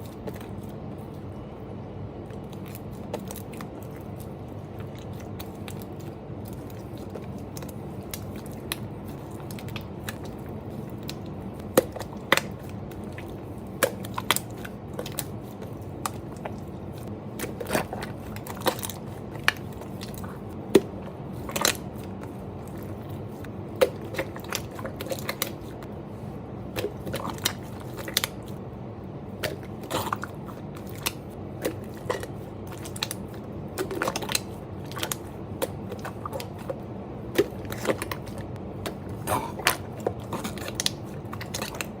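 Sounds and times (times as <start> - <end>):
low background hum: 0.0 - 42.0.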